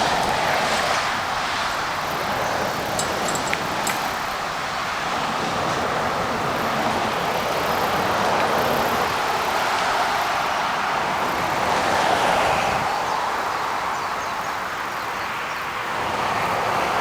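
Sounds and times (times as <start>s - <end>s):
road traffic: 0.0s - 14.6s.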